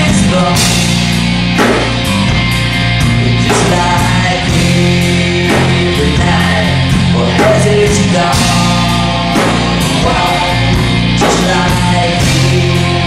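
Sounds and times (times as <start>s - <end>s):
drum hits: 0.0s - 12.8s
held bass notes: 0.0s - 13.0s
rock band playing live: 0.0s - 13.0s.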